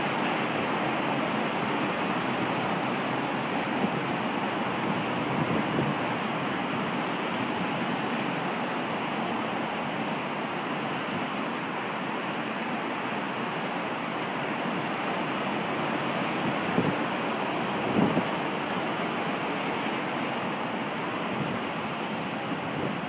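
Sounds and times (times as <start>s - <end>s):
heavy surf breaking: 0.0s - 23.0s.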